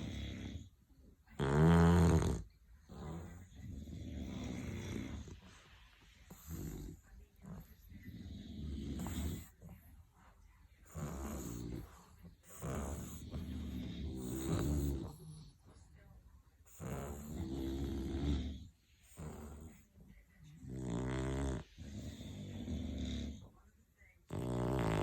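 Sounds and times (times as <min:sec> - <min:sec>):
dog snoring: 0:00.0 - 0:09.9, 0:10.8 - 0:15.8, 0:16.6 - 0:23.5, 0:24.2 - 0:25.0
dog breathing: 0:01.6 - 0:23.6.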